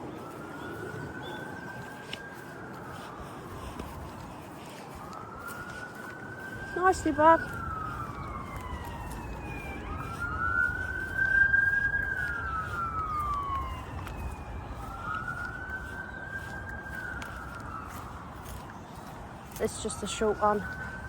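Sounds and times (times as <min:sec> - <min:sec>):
emergency siren wailing: 0:00.0 - 0:21.0
wind on microphone: 0:00.0 - 0:21.0.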